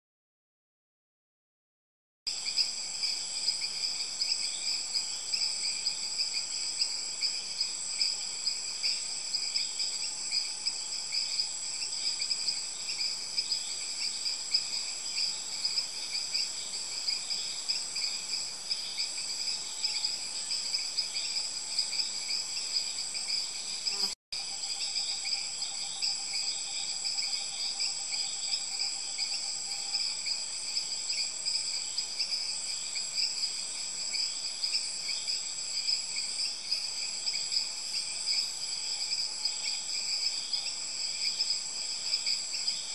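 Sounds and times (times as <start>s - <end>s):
insects trilling: 2.3s - 42.9s.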